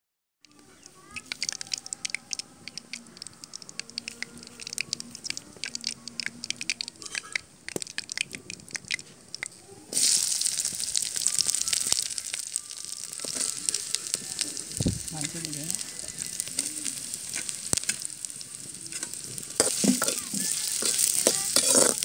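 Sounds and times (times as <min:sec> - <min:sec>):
hot oil crackling and popping: 0:00.4 - 0:22.0
onions sizzling in oil: 0:00.5 - 0:22.0.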